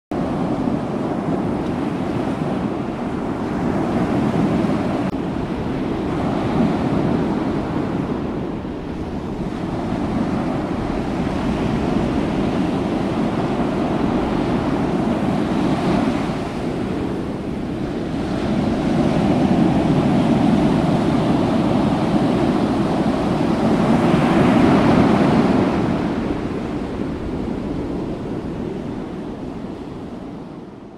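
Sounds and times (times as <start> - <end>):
ocean waves washing in: 0.1 - 30.9.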